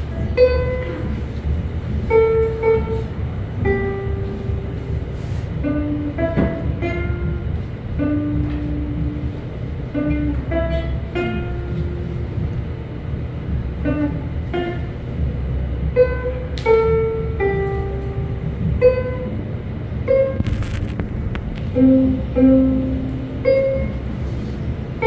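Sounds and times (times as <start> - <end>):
slow ukulele melody: 0.0 - 25.0.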